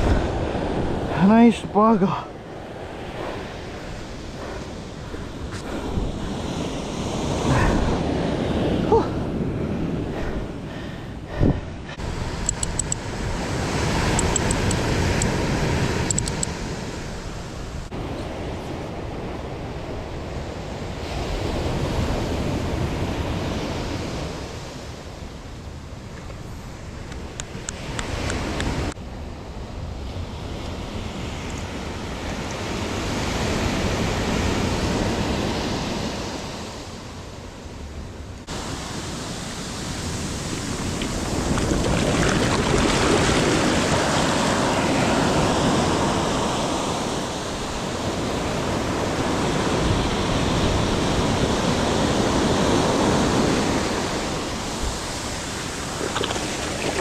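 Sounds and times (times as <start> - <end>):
wind on microphone: 0.0 - 1.5, 2.4 - 29.0, 29.8 - 57.0
ocean surf breaking on shore: 0.0 - 57.0.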